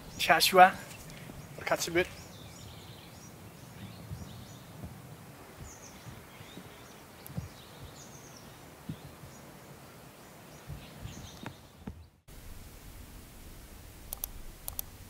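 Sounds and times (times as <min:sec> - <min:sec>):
small birds chirping: 0:00.0 - 0:12.3.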